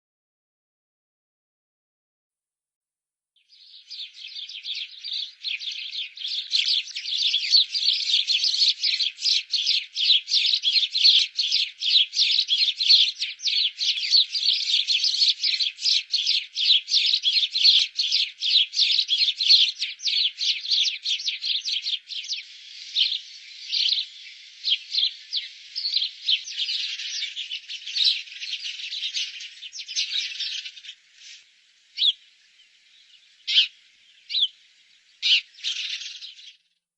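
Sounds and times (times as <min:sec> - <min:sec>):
sparrows chirping: 0:03.4 - 0:36.8.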